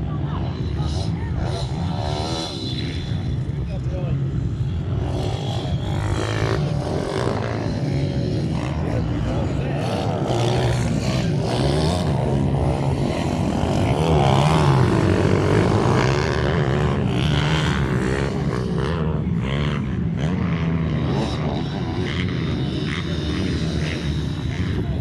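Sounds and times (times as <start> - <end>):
small engines buzzing: 0.0 - 25.0.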